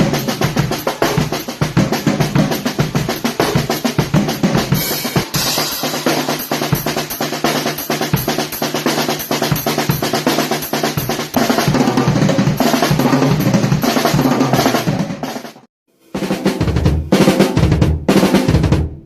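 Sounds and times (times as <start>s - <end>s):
fast drum kit playing: 0.0s - 19.0s.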